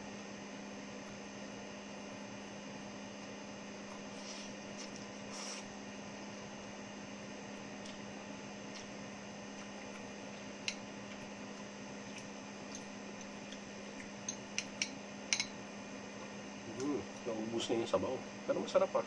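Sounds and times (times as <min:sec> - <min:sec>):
air-conditioner hum: 0:00.0 - 0:19.0.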